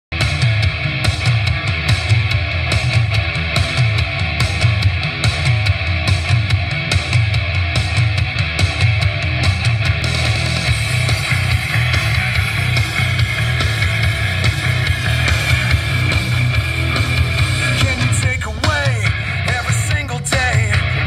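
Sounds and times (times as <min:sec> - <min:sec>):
loud music with heavy bass: 0:00.1 - 0:21.0.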